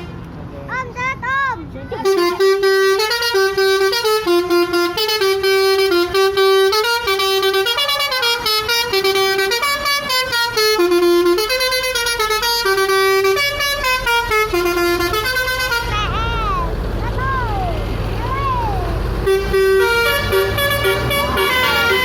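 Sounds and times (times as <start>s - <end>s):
musical bus horn playing a tune: 2.0s - 16.8s, 19.1s - 22.0s.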